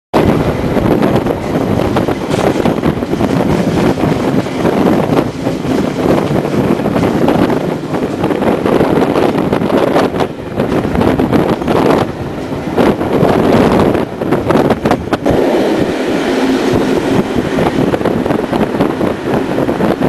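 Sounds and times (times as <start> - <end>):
train running on track: 0.1 - 20.0
wind buffeting microphone: 0.1 - 20.0.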